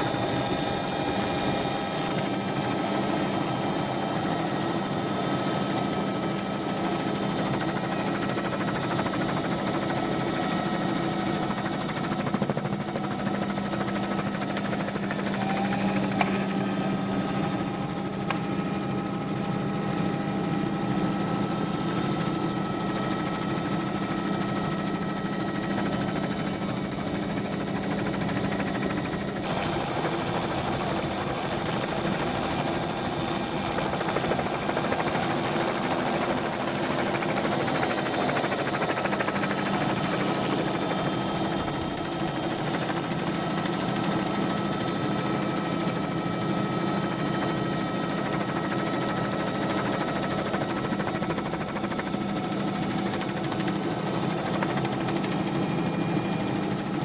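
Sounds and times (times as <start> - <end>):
helicopter engine and rotor: 0.0 - 57.0.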